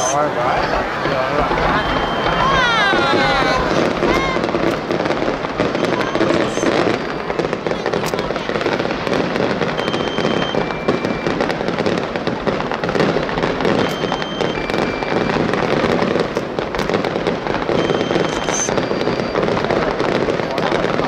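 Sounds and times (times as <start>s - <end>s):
fireworks crackling and popping: 0.0s - 21.0s.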